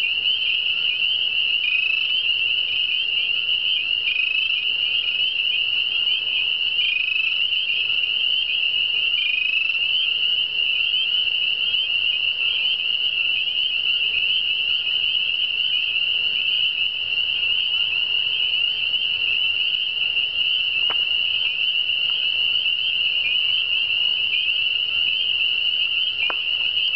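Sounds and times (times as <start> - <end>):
chorus of frogs peeping: 0.0 - 26.9.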